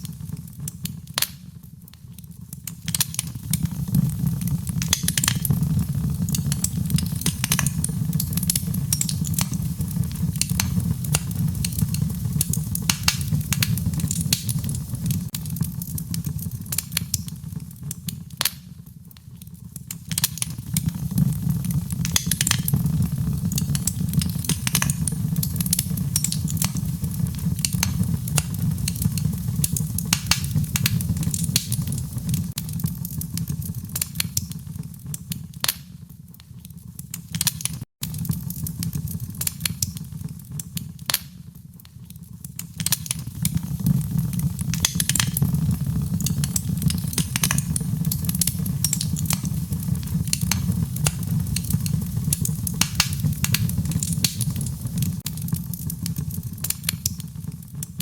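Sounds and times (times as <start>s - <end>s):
fireplace fire crackling: 0.0s - 58.0s
low rumble of flames: 0.0s - 58.0s.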